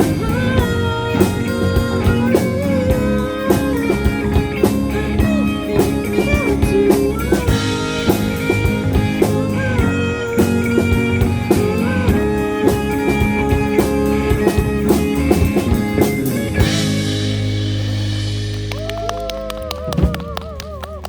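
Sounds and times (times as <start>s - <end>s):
drum kit beat: 0.0s - 21.0s
guitar chords: 0.0s - 21.0s.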